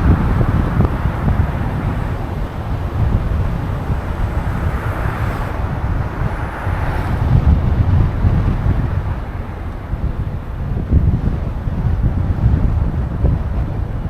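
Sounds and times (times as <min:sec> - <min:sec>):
city street traffic: 0:00.0 - 0:14.0
wind buffeting microphone: 0:00.0 - 0:14.0.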